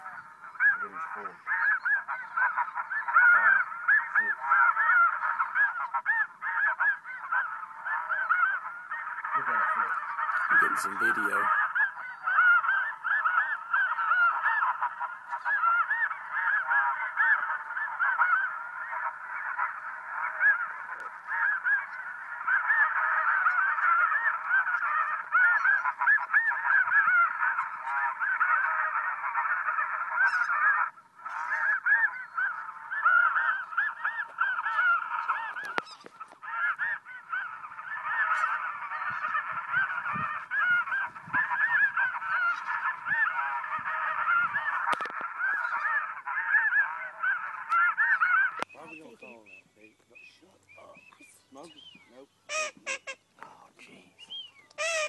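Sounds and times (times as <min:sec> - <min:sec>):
flock of geese honking: 0:00.0 - 0:55.0.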